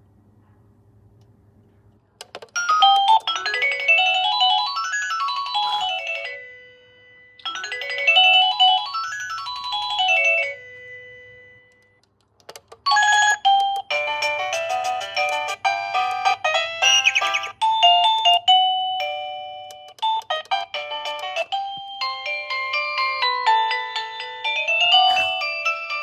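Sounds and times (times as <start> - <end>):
electronic doorbell chime melody: 2.6 - 11.8, 12.9 - 26.0.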